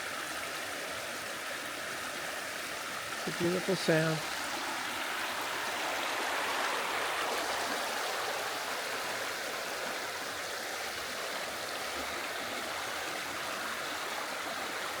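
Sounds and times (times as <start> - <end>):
stream babbling over rocks: 0.0 - 15.0.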